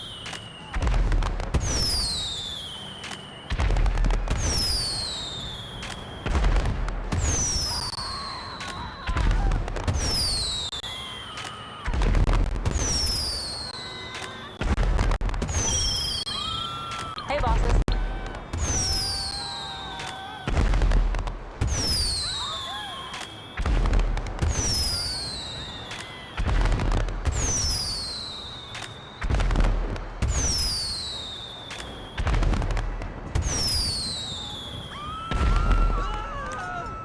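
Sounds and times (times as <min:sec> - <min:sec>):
falling firework whistle: 0:00.0 - 0:37.0
fireworks bangs: 0:00.0 - 0:37.0.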